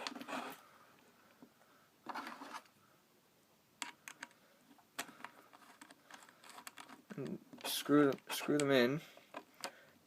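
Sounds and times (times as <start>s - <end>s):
wires rubbing and rustling: 0.0s - 2.9s, 3.8s - 9.8s.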